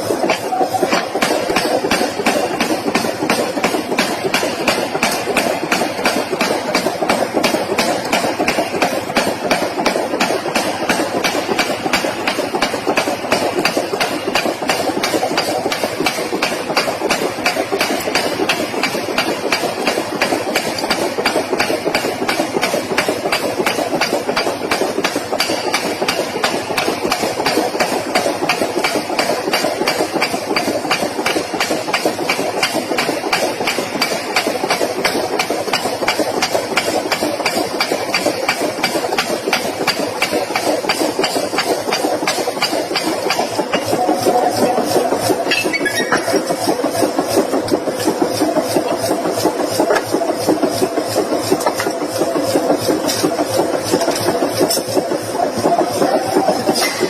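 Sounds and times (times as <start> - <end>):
power hammer striking hot metal: 0.0 - 47.2, 48.0 - 55.4, 56.0 - 57.0.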